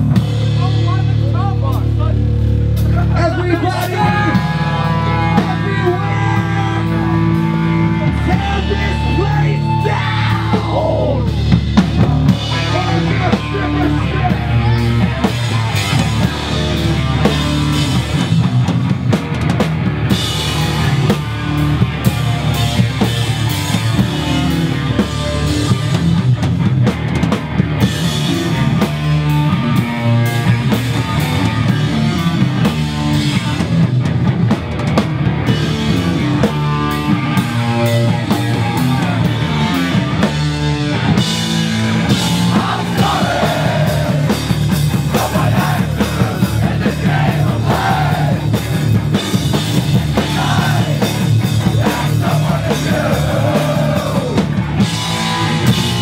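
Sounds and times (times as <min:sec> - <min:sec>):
bass guitar: 0:00.0 - 0:56.0
distorted electric guitar: 0:00.0 - 0:56.0
drum kit: 0:00.0 - 0:56.0.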